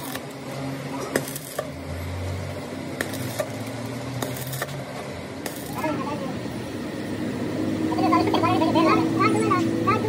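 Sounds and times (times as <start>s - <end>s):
arc welding crackling sizzle: 0.0s - 10.0s.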